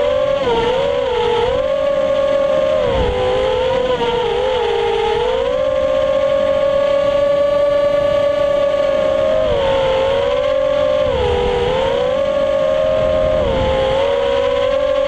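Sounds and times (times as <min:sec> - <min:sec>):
drone motors high whine: 0:00.0 - 0:15.0.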